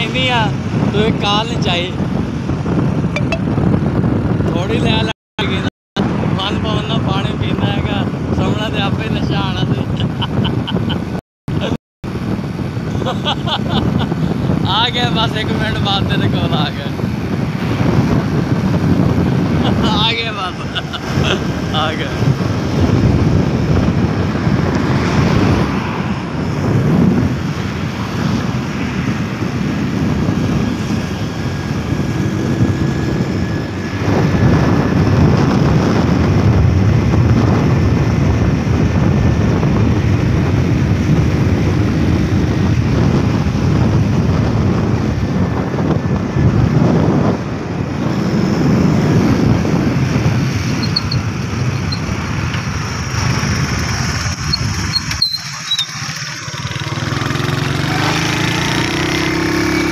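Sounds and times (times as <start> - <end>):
road and engine noise: 0.0 - 59.9
wind buffeting microphone: 0.0 - 59.9.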